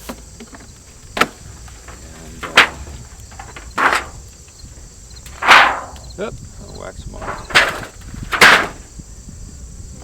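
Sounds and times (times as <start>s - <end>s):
wooden beehive parts knocking: 0.0s - 6.3s, 7.2s - 8.9s
crickets chirring: 0.0s - 10.0s.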